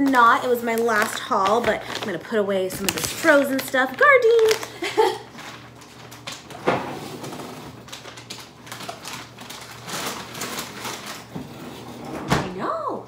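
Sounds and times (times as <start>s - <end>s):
plastic bags rustling: 0.0s - 11.9s.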